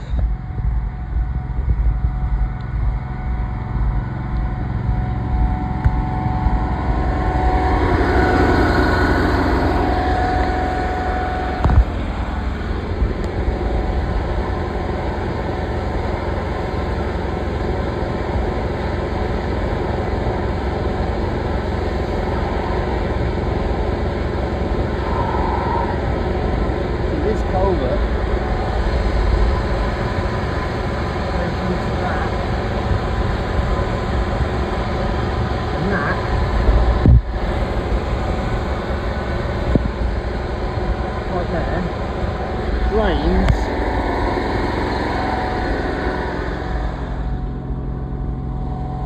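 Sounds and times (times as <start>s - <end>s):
drain jetting engine running: 0.0s - 49.0s.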